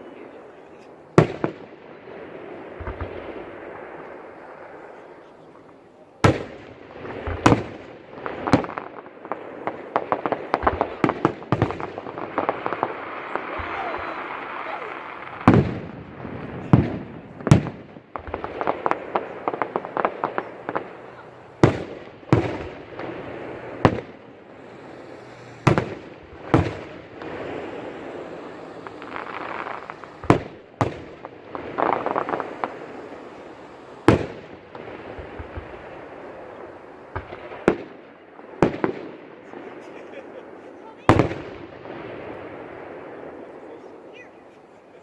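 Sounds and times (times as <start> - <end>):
firework crackling: 0.0 - 45.0
firework shells bursting: 5.6 - 44.4.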